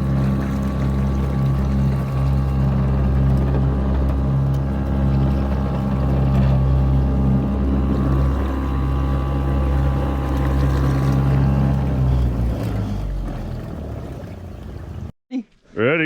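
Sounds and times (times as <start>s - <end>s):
boat motor running: 0.0s - 15.1s.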